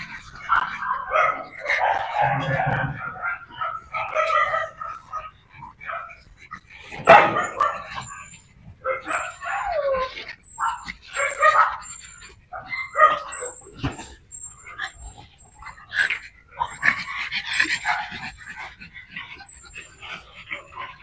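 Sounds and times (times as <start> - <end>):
small dogs barking and yipping: 0.0 - 21.0.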